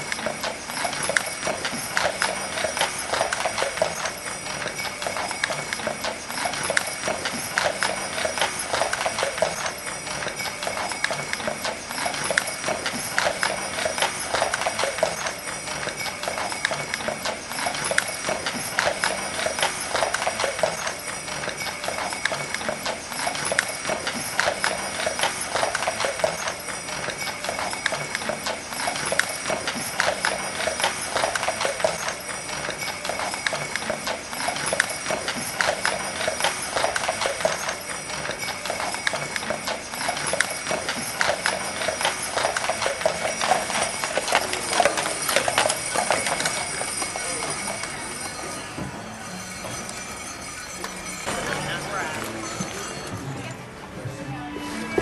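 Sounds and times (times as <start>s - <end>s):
horse hooves clip-clopping: 0.0s - 54.1s.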